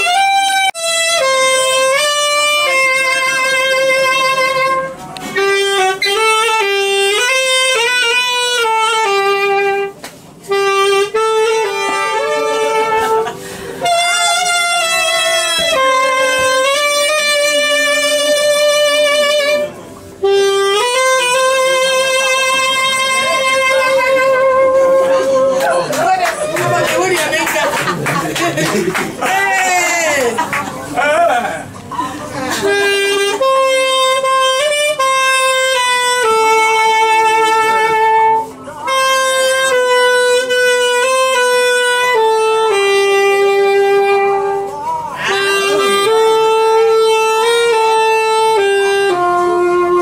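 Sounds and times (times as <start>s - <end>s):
solo saxophone melody: 0.0s - 50.0s.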